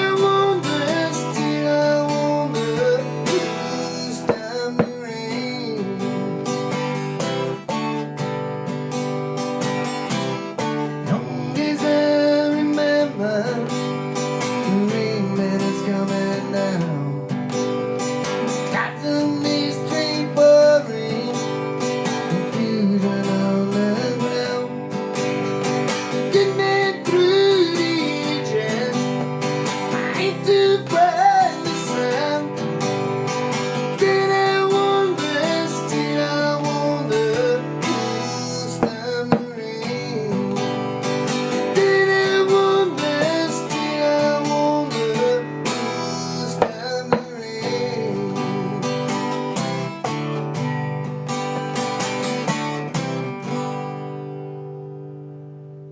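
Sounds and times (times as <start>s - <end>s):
acoustic guitar strumming: 0.0s - 55.9s.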